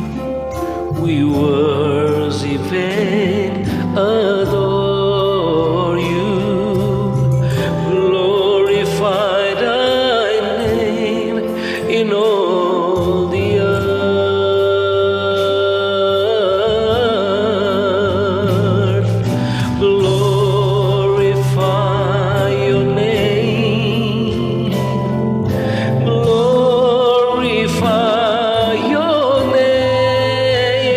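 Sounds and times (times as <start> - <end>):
backing track: 0.0 - 30.9
person singing worship song: 0.0 - 30.9.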